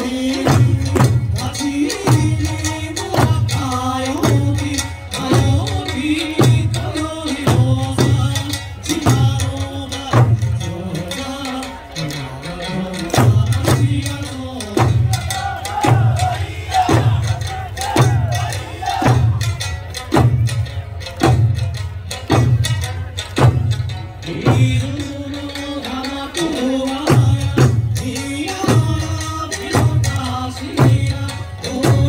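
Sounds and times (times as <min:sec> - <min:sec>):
hand drums struck: 0:00.0 - 0:11.2, 0:12.9 - 0:32.0
folk music with singing: 0:00.0 - 0:32.0.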